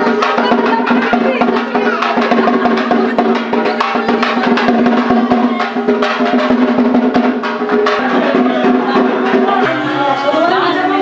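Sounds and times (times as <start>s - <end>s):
fast dense drumming: 0.0s - 11.0s.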